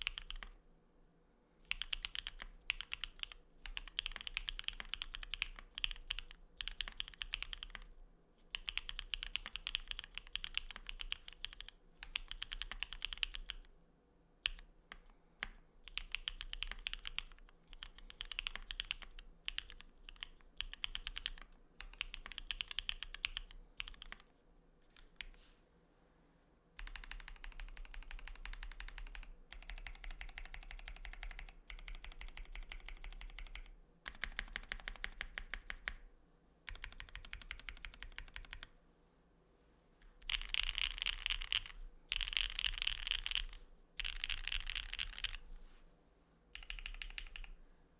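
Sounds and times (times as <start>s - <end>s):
mechanical keyboard typing: 0.0s - 0.6s, 1.7s - 7.9s, 8.5s - 13.7s, 14.4s - 24.3s, 26.8s - 36.0s, 36.7s - 38.7s, 40.2s - 45.4s, 46.6s - 47.6s.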